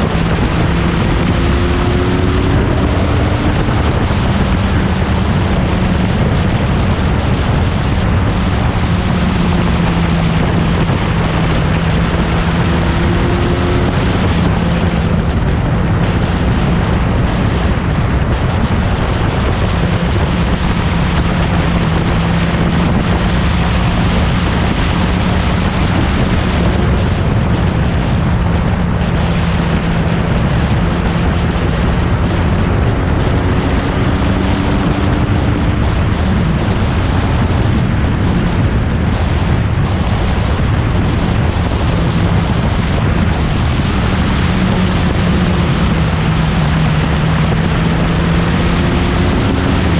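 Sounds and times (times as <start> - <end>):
heavy rushing noise: 0.0 - 49.9
racing car engine running: 0.0 - 49.9.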